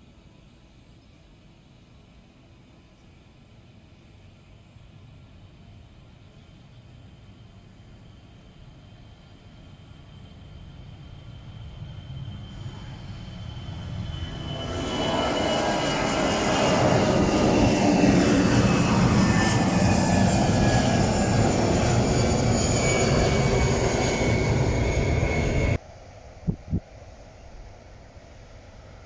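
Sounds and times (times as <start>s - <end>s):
jet engines passing with whine: 4.2s - 29.0s.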